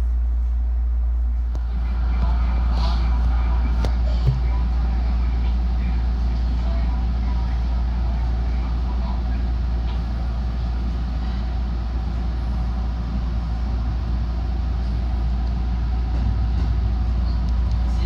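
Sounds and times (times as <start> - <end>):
train interior hum: 0.0 - 18.0.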